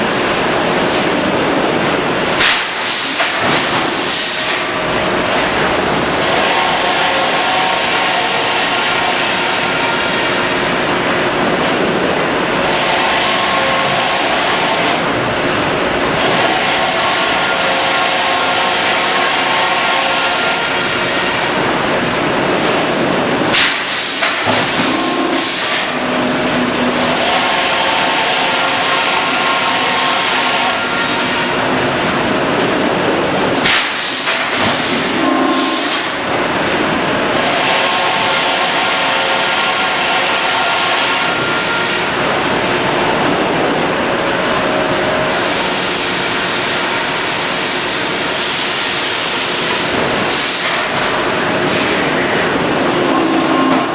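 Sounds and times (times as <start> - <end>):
sawmill machinery din: 0.0 - 53.9.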